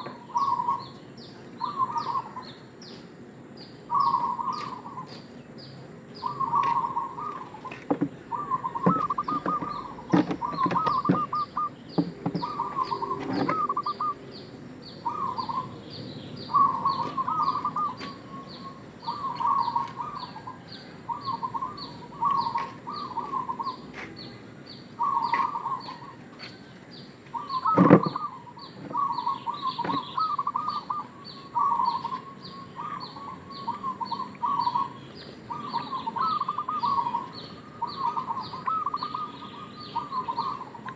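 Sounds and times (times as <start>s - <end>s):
dove cooing: 0.0s - 2.6s, 3.9s - 5.4s, 6.1s - 40.9s
steady high chirping: 0.0s - 40.9s.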